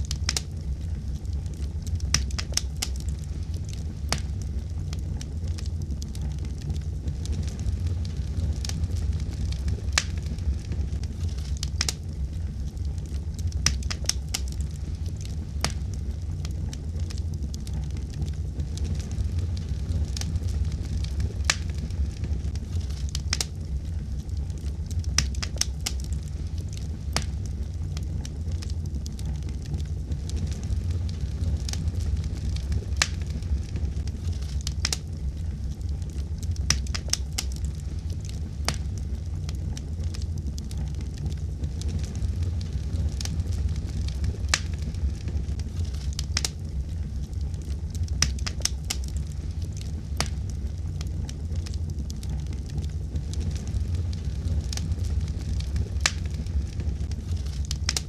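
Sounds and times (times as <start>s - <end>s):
fire crackles and pops: 0.0s - 58.0s
fire rumbling: 0.0s - 58.0s.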